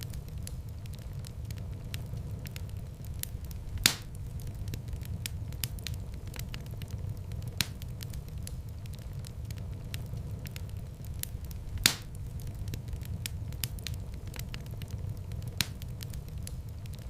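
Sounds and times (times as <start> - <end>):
loud fire pops: 0.0 - 17.0
steady low rumble: 0.0 - 17.0
wood fire crackling: 0.0 - 17.0.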